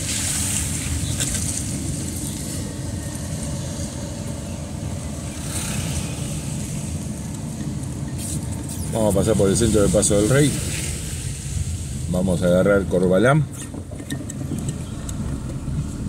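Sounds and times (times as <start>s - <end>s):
passing car tyre hiss: 0.0s - 13.7s
car engine and tyres rumbling: 0.0s - 16.0s.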